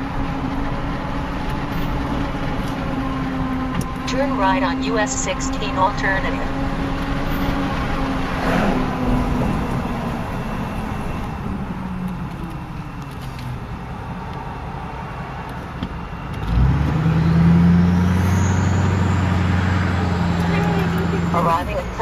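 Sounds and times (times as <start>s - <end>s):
road noise: 0.0s - 22.0s
vehicle engine: 0.0s - 22.0s.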